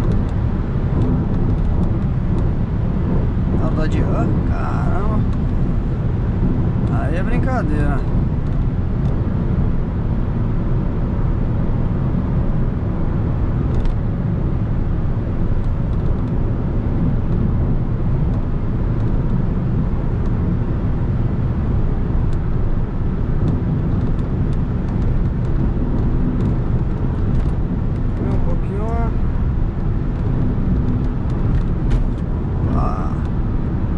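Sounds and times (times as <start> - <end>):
car road and engine noise: 0.0 - 33.9.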